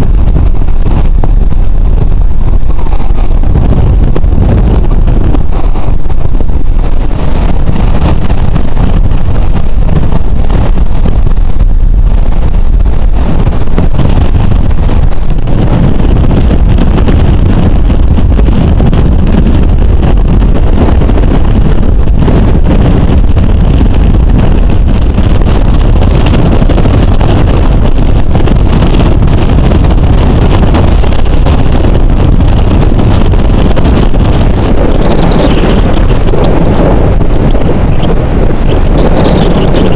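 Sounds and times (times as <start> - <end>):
surf washing: 0.0 - 39.9
wind buffeting microphone: 0.0 - 39.9.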